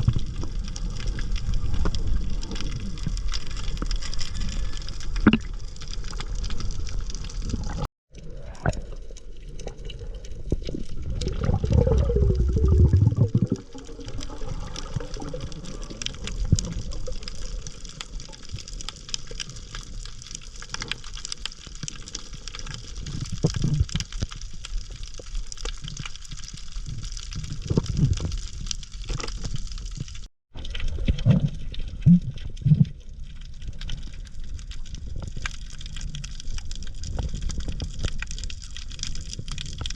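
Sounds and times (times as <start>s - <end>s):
clicks and crackle: 0.0s - 39.9s
water sloshing and bubbling: 0.0s - 39.9s.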